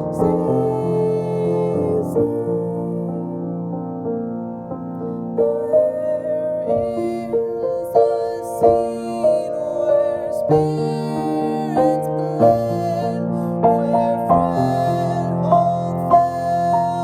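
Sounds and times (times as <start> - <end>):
piano playing hymn chords: 0.0 - 17.0.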